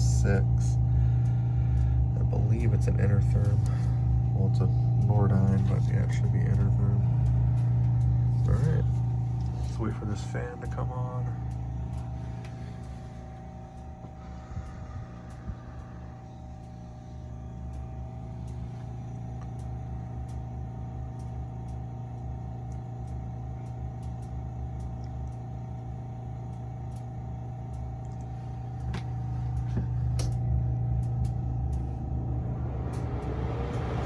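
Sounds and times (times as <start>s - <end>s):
faint whine: 0.0s - 34.0s
gas furnace motor hum: 0.0s - 34.0s.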